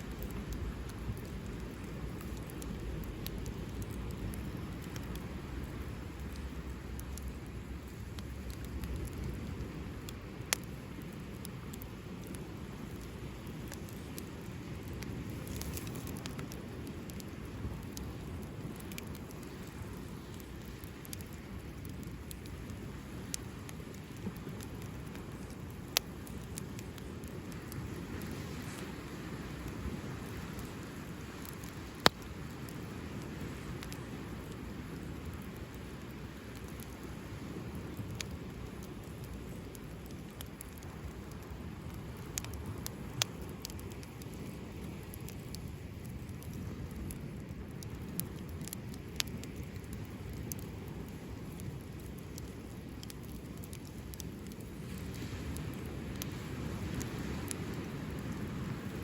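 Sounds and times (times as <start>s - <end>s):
campfire rumble: 0.0s - 59.0s
fire crackling: 0.0s - 59.0s.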